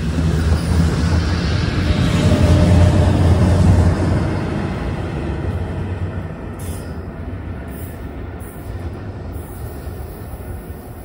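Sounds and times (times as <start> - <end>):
train wheel-on-rail rumble: 0.0 - 11.0.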